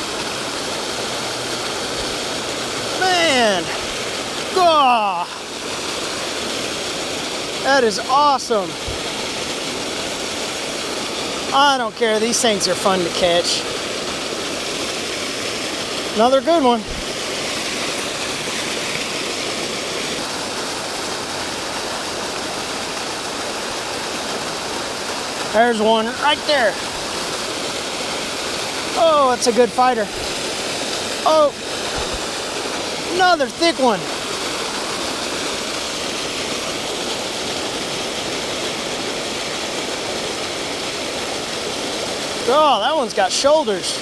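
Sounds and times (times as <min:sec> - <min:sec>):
water rushing from spillway: 0:00.0 - 0:44.0.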